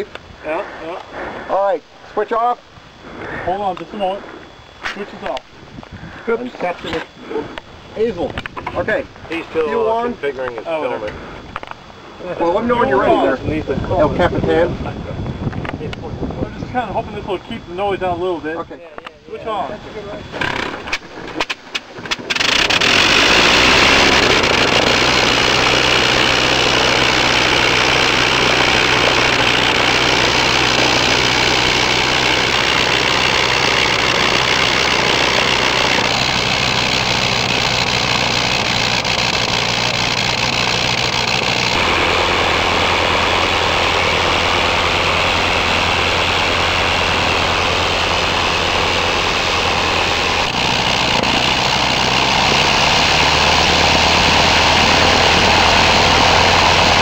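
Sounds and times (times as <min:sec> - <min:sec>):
rotary aircraft engine running: 0:00.0 - 0:57.0.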